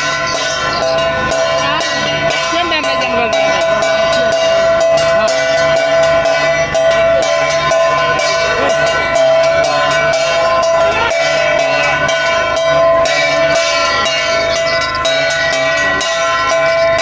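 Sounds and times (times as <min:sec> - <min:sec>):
crowd voices: 0:00.0 - 0:17.0
metal bells struck rapidly: 0:00.0 - 0:17.0.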